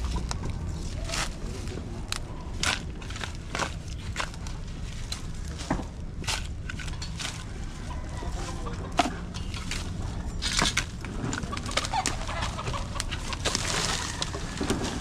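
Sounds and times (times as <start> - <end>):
sharp crunches and knocks: 0.0 - 15.0
steady low rumble: 0.0 - 15.0.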